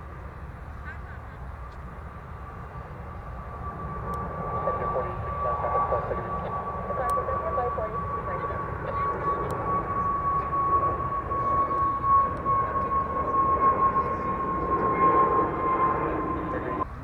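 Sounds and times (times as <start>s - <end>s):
jet airliner taking off: 0.0s - 17.0s.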